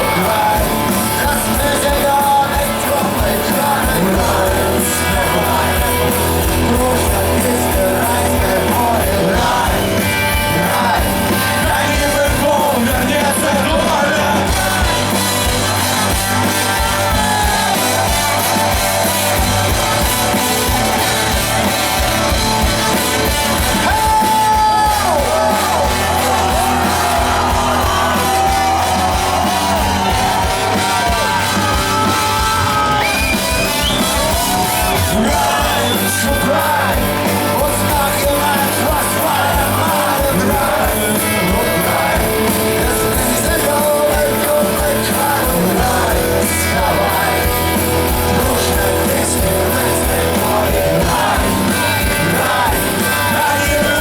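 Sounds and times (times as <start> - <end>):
driving bass: 0.0 - 54.0
live rock band: 0.0 - 54.0
person singing: 0.0 - 54.0.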